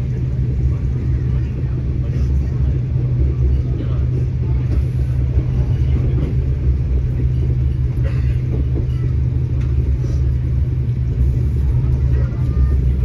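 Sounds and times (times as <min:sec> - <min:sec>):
train rumble from inside carriage: 0:00.0 - 0:13.0.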